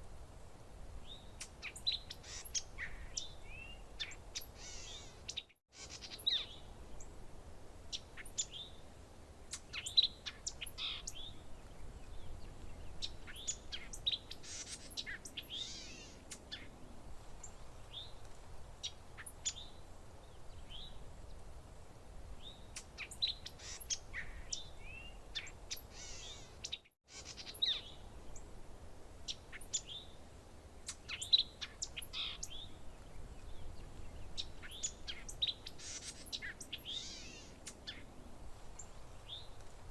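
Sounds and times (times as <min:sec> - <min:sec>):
songbirds chirping: 0:00.1 - 0:39.9.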